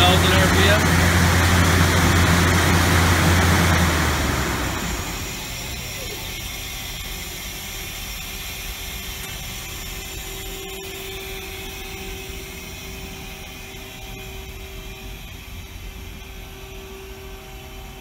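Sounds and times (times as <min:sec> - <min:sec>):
constant tone: 0:00.0 - 0:18.0
lathe hum and hiss: 0:00.0 - 0:18.0.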